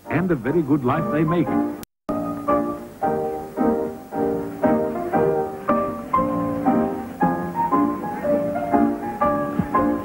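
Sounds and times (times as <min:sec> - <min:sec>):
dance band with piano and strings: 0:00.0 - 0:10.0.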